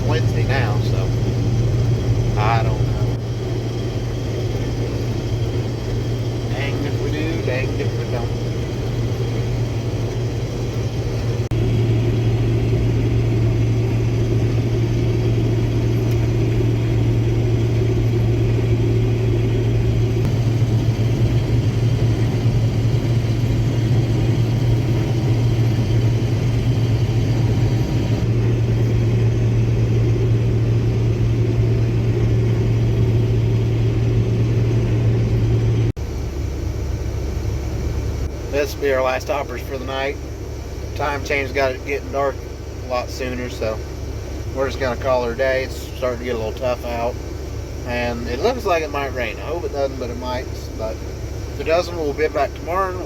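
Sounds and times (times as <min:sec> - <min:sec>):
combine harvester engine drone: 0:00.0 - 0:53.0
low machinery hum: 0:00.0 - 0:53.0.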